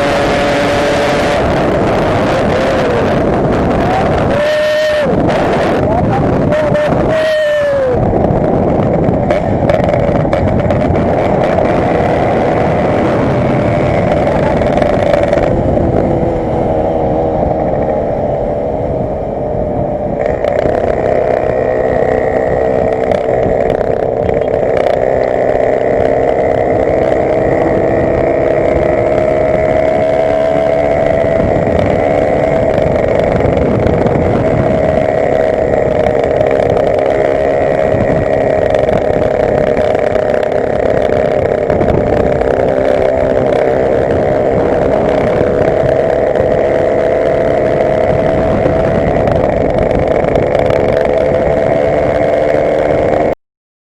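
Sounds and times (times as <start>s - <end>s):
motorcycle engine revving: 0.0s - 53.4s.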